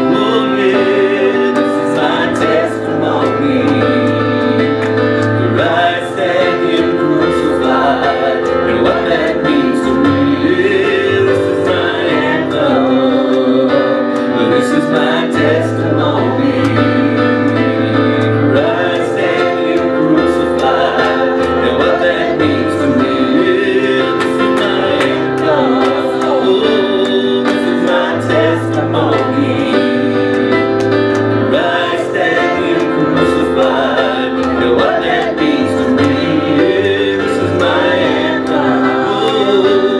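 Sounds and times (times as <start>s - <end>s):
sustained keyboard: 0.0s - 39.9s
voices singing gospel: 0.0s - 39.9s.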